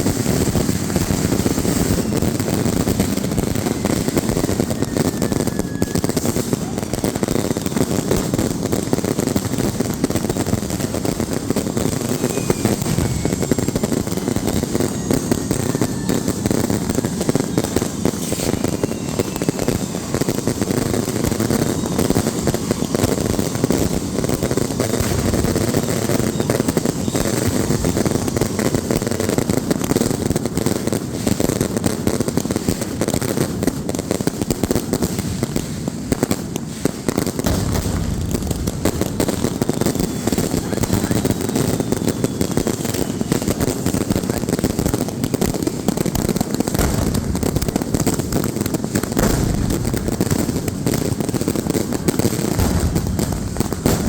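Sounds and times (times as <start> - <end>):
fireworks popping and banging: 0.0 - 54.0.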